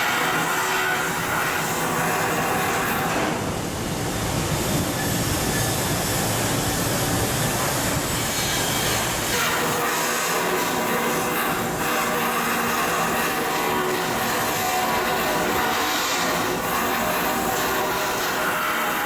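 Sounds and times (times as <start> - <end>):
heavy metalworking machinery: 0.0 - 19.0.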